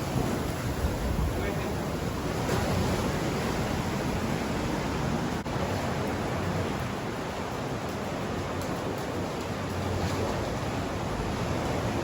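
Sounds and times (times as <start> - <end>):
ocean surf rushing: 0.0 - 12.0
wind rumble on microphone: 0.0 - 12.0.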